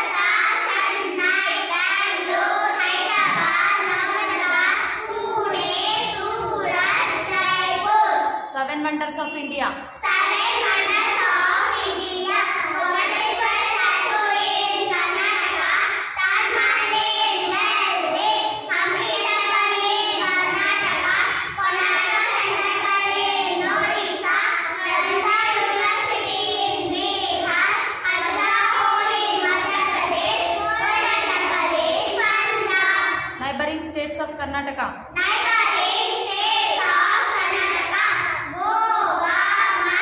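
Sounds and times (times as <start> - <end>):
girls singing in unison: 0.0 - 8.5, 9.9 - 33.4, 35.1 - 40.0.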